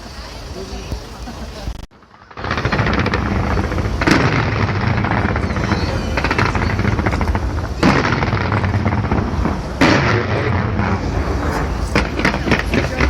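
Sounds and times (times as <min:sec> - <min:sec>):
fireworks bangs and crackle: 0:00.1 - 0:13.0
heavy firework booms: 0:02.1 - 0:13.0.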